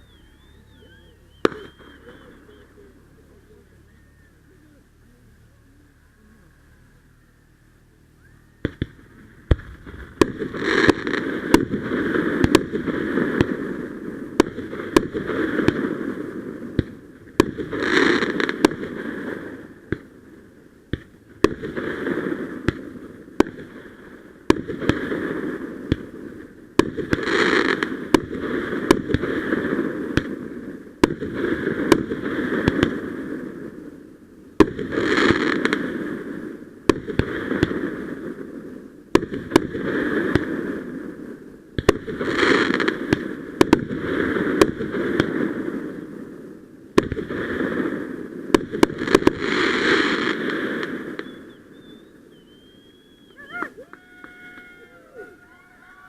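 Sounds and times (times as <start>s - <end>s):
fireworks bangs and pops: 0.0s - 3.4s, 8.6s - 20.2s, 20.9s - 54.8s.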